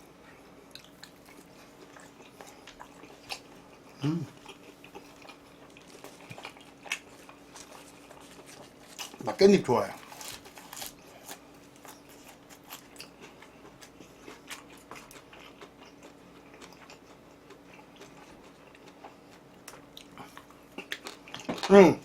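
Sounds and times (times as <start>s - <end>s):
faint steady hum: 0.0s - 22.0s
person chewing food: 0.1s - 21.7s.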